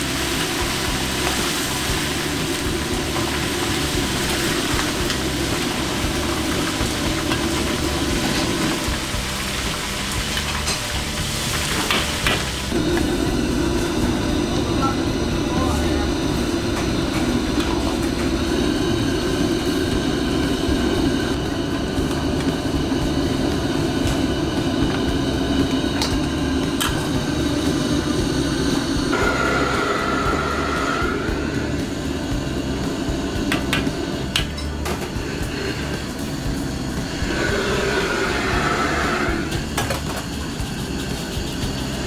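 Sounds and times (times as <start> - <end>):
gas burner flame roaring: 0.0 - 42.0
oil bubbling: 0.0 - 42.0.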